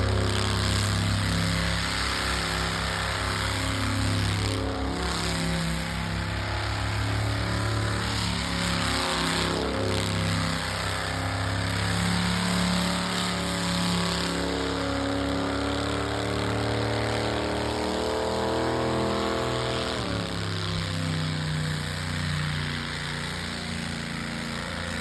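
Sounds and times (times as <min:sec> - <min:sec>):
racing engines running: 0:00.0 - 0:25.0.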